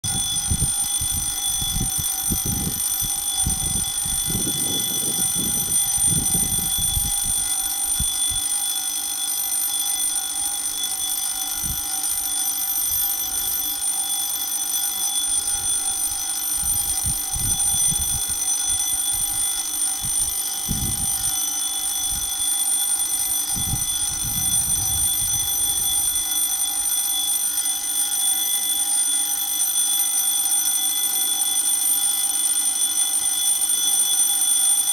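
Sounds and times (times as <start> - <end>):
level crossing alarm ringing: 0.0 - 34.9.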